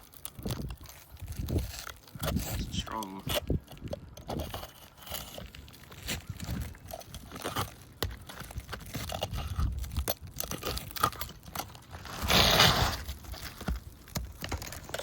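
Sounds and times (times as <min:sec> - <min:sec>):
roof shingles being torn off: 0:00.0 - 0:15.0
scraping tear: 0:00.0 - 0:15.0.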